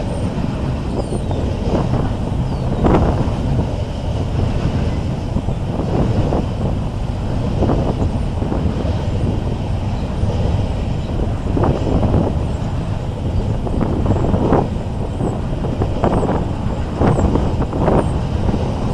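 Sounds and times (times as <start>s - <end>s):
train rumbling past: 0.0s - 18.9s
wheels clanking over rail joints: 0.0s - 18.9s.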